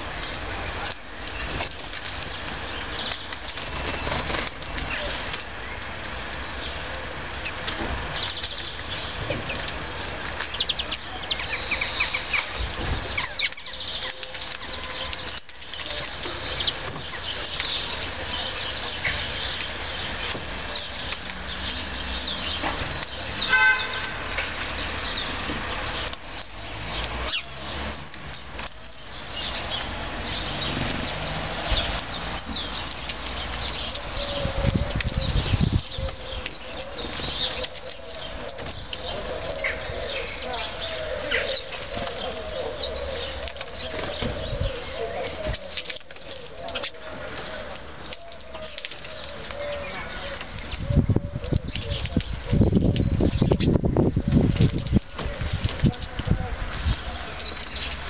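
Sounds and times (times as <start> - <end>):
low rumble of traffic: 0.0 - 58.0
songbirds chirping: 0.0 - 58.0.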